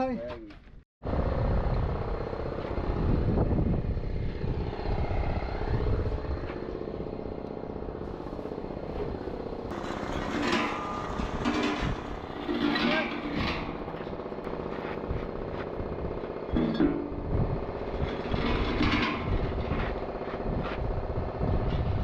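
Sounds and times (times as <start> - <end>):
diesel engine running: 1.0 - 22.0.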